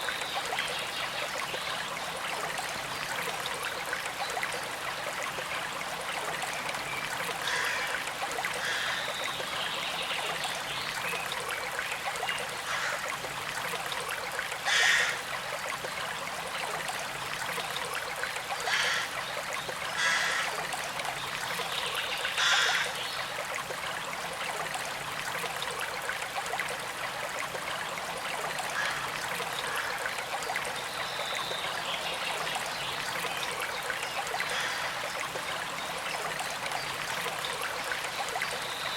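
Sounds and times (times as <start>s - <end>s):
creek flowing and trickling: 0.0s - 38.9s.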